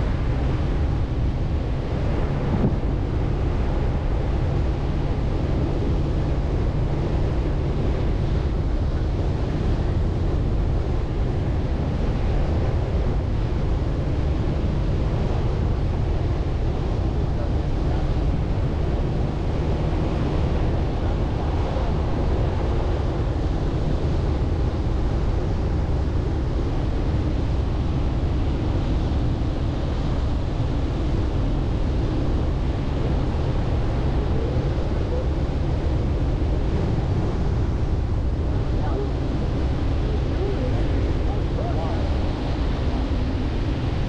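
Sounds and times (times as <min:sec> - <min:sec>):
engine and tyres rumbling on sand: 0:00.0 - 0:44.0
wind noise: 0:00.0 - 0:44.0.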